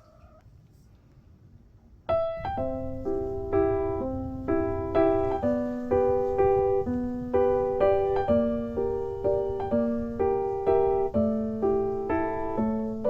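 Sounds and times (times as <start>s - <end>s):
gentle piano music: 2.0s - 13.0s.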